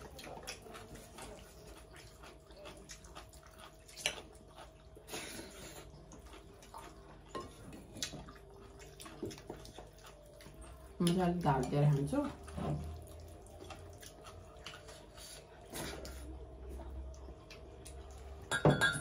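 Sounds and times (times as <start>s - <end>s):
chewing and lip smacks: 0.0s - 18.5s.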